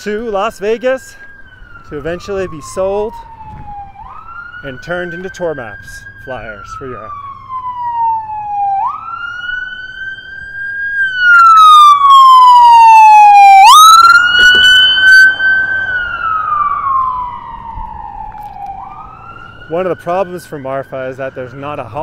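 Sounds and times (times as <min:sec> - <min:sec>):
ambulance siren wailing: 0:00.2 - 0:22.0.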